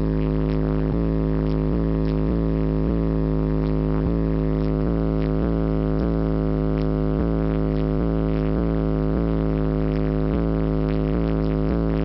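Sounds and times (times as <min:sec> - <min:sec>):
bass-heavy music through subwoofers: 0:00.0 - 0:12.0.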